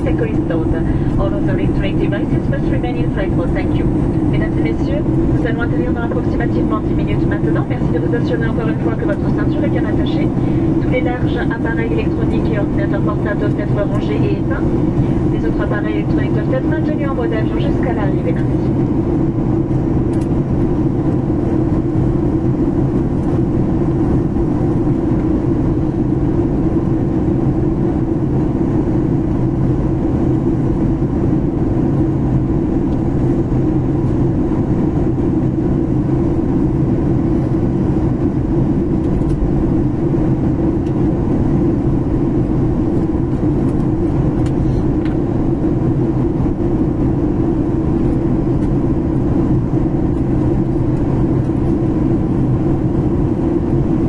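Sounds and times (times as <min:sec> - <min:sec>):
airliner cabin rumble: 0:00.0 - 0:54.0
steady hum: 0:00.0 - 0:54.0.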